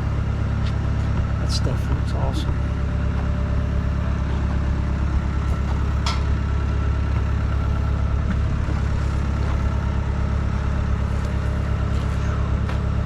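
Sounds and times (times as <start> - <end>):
sawmill engine idling: 0.0 - 13.0.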